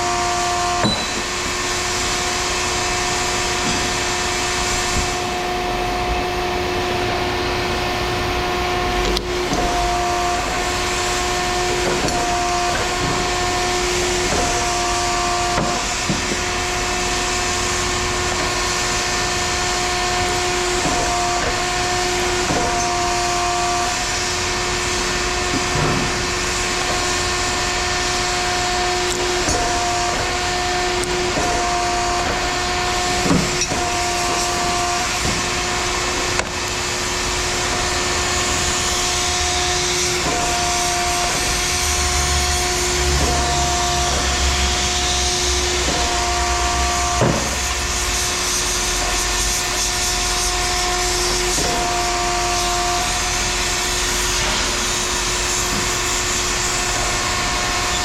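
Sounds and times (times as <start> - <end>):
machine humming: 0.0 - 58.0.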